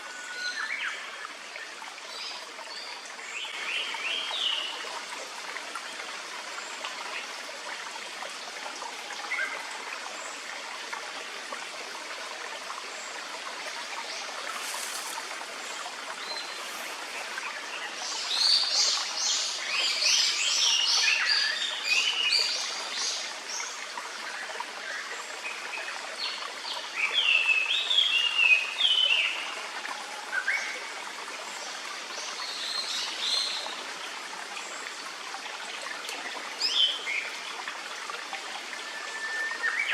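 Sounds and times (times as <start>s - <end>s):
forest stream rushing: 0.0s - 39.9s.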